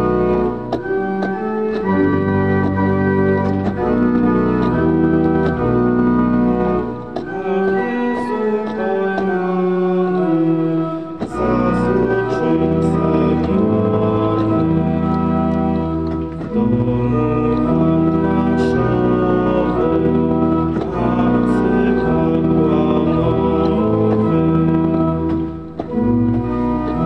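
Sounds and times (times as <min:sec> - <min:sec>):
deep bass organ notes: 0:00.0 - 0:08.6, 0:09.2 - 0:27.0
organ playing a slow hymn: 0:00.0 - 0:27.0.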